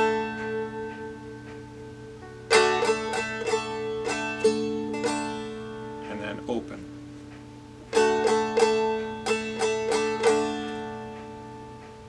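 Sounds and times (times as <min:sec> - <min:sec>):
stick dulcimer strummed: 0:00.0 - 0:12.0.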